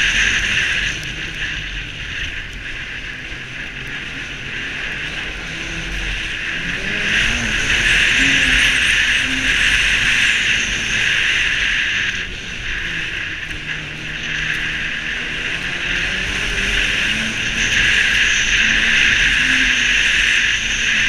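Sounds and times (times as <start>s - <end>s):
snowmobile engine running: 0.0s - 21.0s
wind rushing: 0.0s - 21.0s.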